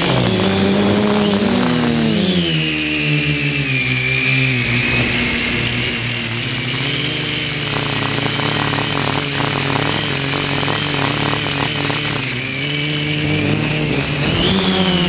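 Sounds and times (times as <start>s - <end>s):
drone motors buzzing: 0.0s - 15.0s.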